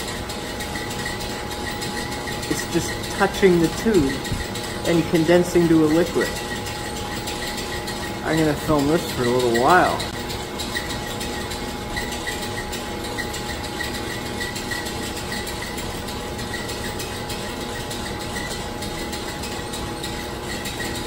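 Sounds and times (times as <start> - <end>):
lab machinery hum: 0.0 - 21.0.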